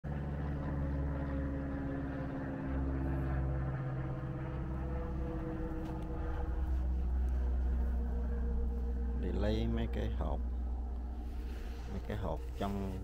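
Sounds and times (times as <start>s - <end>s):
engine humming: 0.1s - 13.0s.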